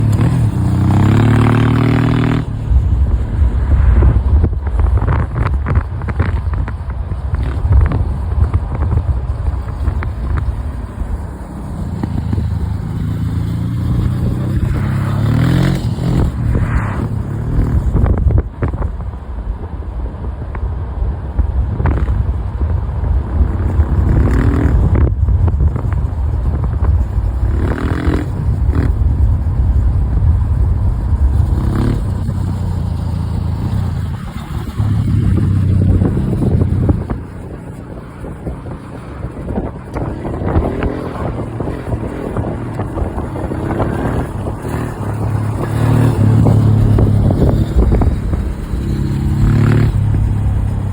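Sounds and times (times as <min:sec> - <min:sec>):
motorcycle engine accelerating: 0:00.0 - 0:19.1, 0:21.6 - 0:50.9
wind buffeting microphone: 0:00.0 - 0:50.9.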